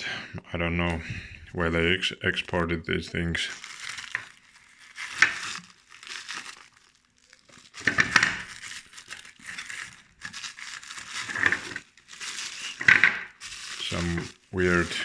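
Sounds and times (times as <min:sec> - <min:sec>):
paper crinkling: 0:00.9 - 0:15.0.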